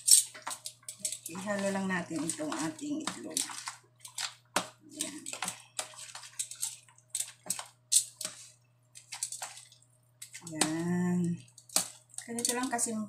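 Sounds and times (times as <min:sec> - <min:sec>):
wet squishing of food: 0:00.3 - 0:12.6.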